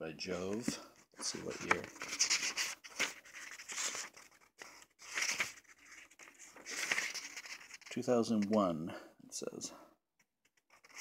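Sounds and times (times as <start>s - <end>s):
book pages flipping: 0.4s - 8.6s, 10.4s - 11.0s.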